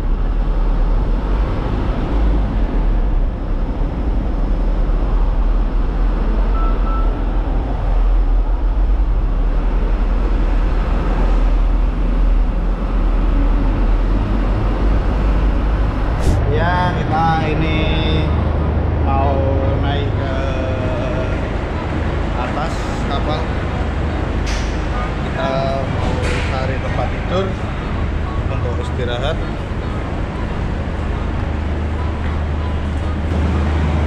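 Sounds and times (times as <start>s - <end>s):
truck engine rumbling: 0.0s - 34.0s.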